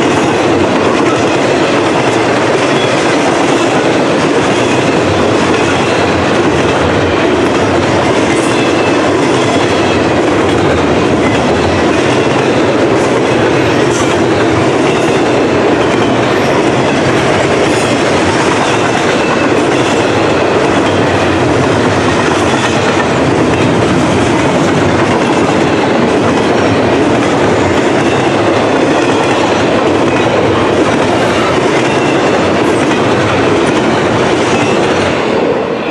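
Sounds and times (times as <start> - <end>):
train wheels rumbling on rail: 0.0 - 35.9.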